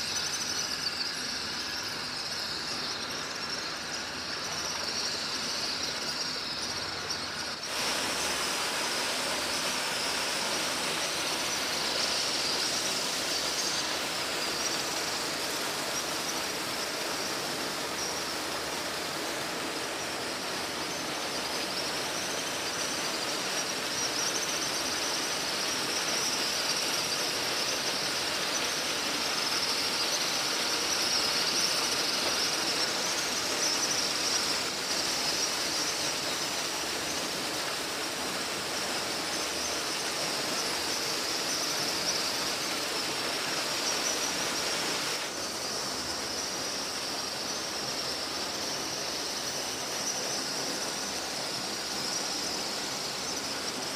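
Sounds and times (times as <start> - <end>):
stream of water splashing: 0.0 - 53.9.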